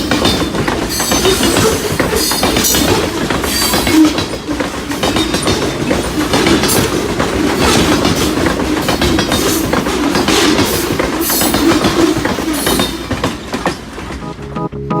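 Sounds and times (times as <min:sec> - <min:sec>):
wheels clacking over rail joints: 0:00.0 - 0:14.5
train wheels rumbling on rail: 0:00.0 - 0:14.6.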